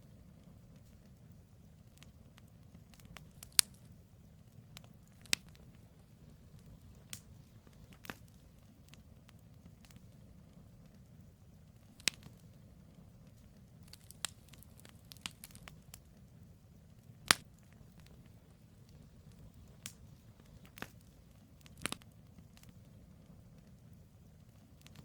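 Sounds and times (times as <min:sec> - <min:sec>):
campfire crackling and popping: 0:00.0 - 0:25.0
flame rushing: 0:00.2 - 0:25.0.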